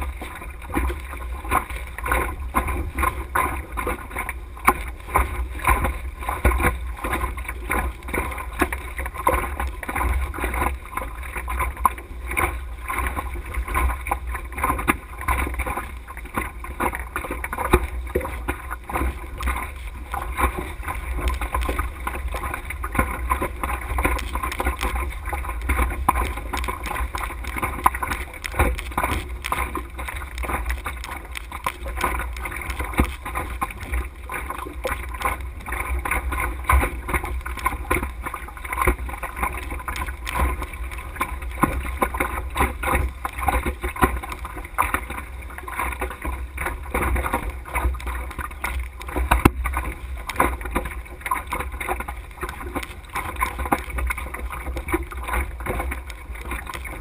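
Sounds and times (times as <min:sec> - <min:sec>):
rush of wind and water: 0:00.0 - 0:57.0
small ticks and rattles: 0:04.7 - 0:57.0.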